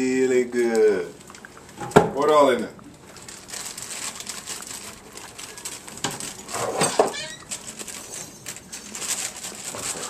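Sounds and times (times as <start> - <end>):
plastic bag crinkling: 0.8 - 10.0.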